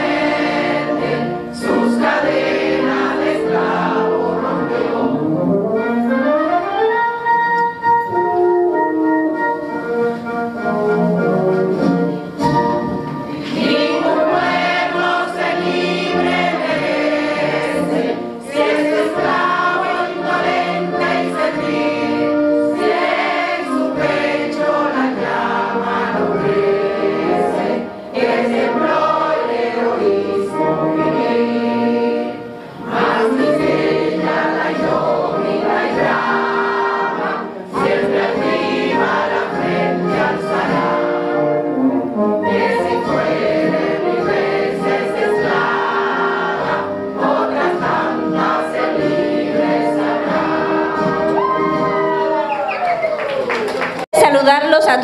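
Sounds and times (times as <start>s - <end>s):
choir singing: 0.0s - 6.2s, 11.1s - 52.6s.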